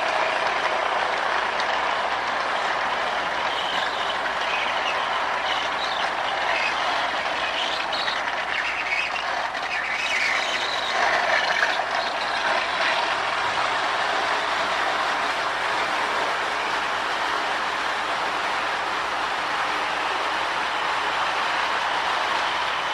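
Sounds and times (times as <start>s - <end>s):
toy train running on track: 0.0s - 22.9s.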